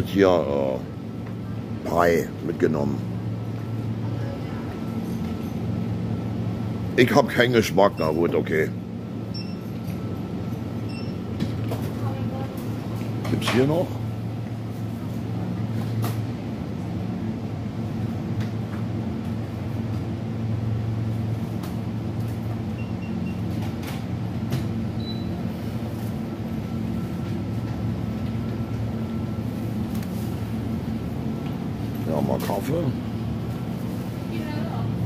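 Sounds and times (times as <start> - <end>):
refrigeration machinery hum: 0.0 - 35.0.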